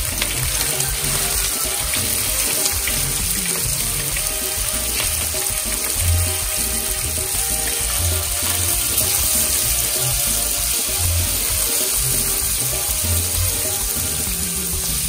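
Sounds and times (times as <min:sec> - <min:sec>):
fish sizzling in hot oil: 0:00.0 - 0:15.0
spatula turning food: 0:00.0 - 0:15.0.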